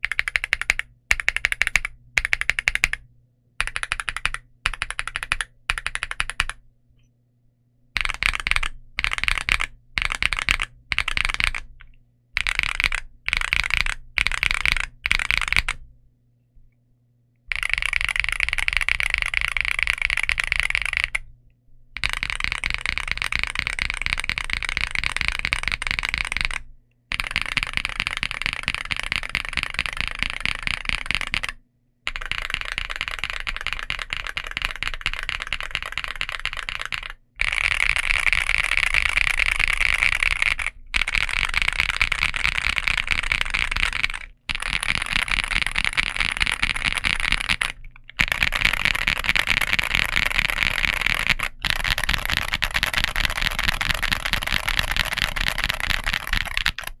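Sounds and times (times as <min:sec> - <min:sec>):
mechanical keyboard typing: 0:00.0 - 0:03.0, 0:03.6 - 0:06.6, 0:08.0 - 0:15.8, 0:17.5 - 0:21.3, 0:22.0 - 0:57.0.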